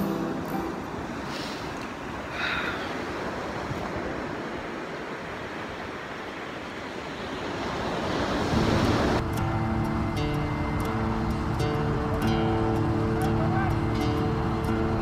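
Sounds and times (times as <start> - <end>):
ocean surf washing ashore: 0.0 - 15.0.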